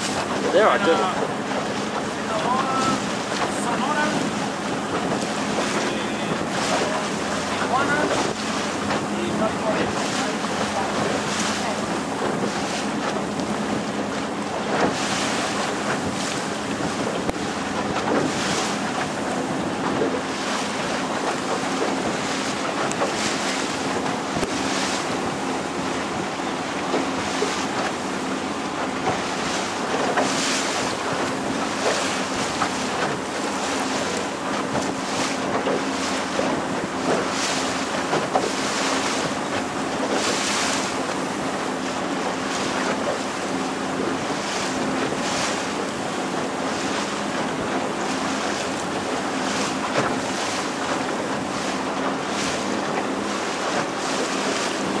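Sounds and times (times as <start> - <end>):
boat motor humming: 0.0 - 55.0
water rushing along hull: 0.0 - 55.0
water splashing: 0.0 - 55.0
wind buffeting microphone: 0.0 - 55.0.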